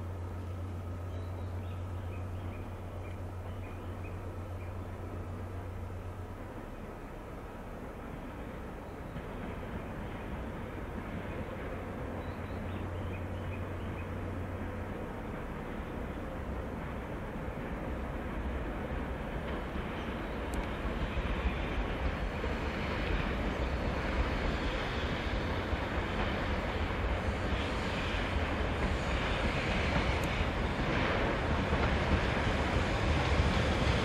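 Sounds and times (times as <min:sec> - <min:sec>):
locomotive engine running: 0:00.0 - 0:34.0.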